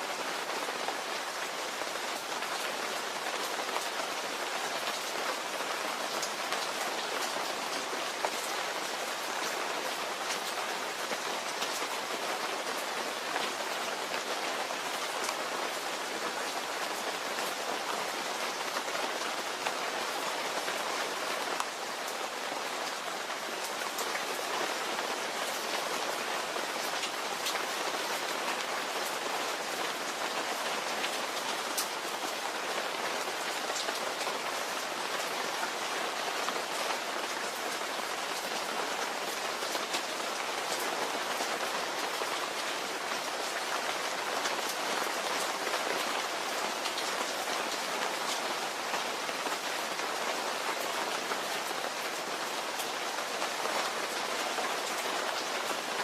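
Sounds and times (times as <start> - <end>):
steady rain hiss: 0.0 - 56.0
raindrops ticking on a surface: 0.1 - 55.9.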